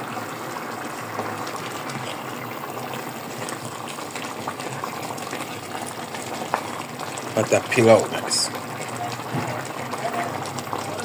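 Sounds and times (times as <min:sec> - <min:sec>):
pot bubbling: 0:00.0 - 0:11.0.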